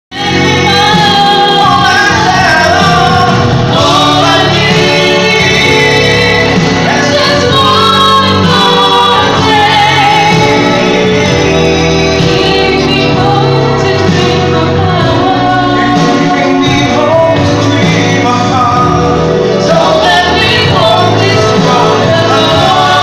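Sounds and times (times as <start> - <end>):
instrumental accompaniment: 0.1 - 23.0
man and woman singing a duet: 0.1 - 23.0.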